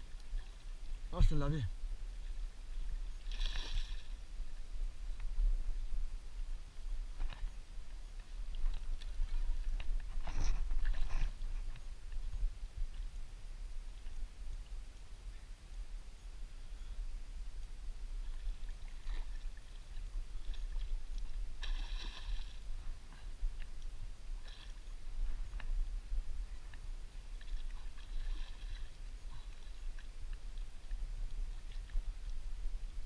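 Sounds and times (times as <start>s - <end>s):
steady low rumble: 1.7s - 33.0s.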